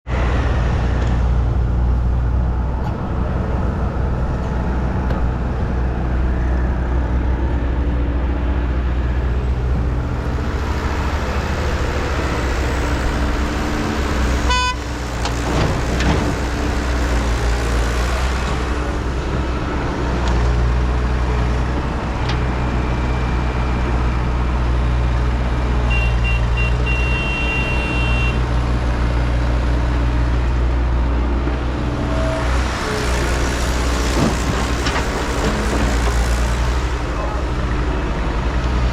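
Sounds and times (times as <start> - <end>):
heavy vehicle engine humming: 0.1 - 38.9.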